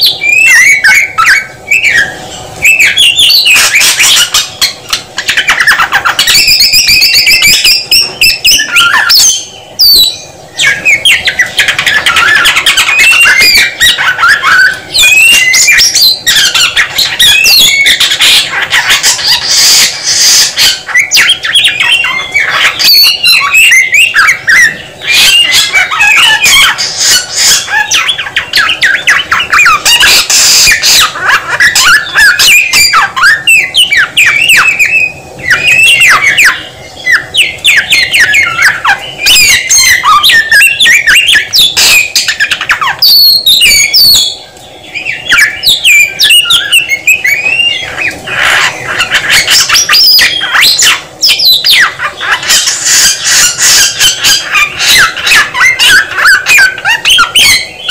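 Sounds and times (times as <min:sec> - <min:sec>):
lark singing: 0:00.0 - 0:57.9.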